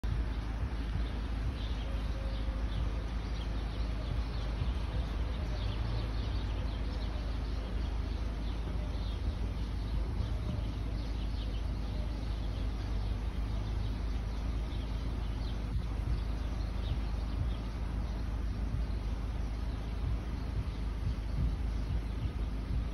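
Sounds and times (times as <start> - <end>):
birds chirping: 0.0 - 22.9
steady low rumble: 0.0 - 22.9.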